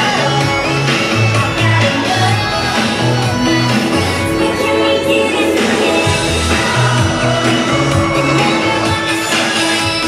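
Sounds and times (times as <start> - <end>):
loud parade music: 0.0 - 10.0.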